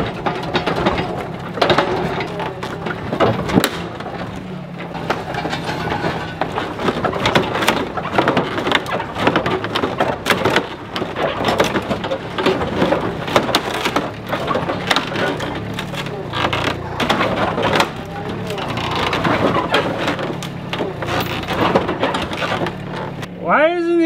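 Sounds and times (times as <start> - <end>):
metal and plastic crunching: 0.0 - 23.3
excavator engine humming: 0.0 - 24.0.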